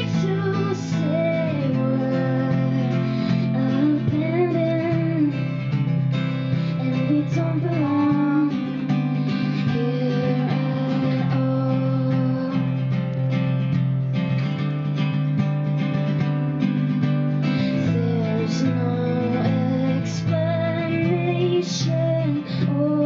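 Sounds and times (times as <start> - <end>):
woman singing: 0.0 - 13.7, 17.4 - 23.0
strummed acoustic guitar: 0.0 - 23.0.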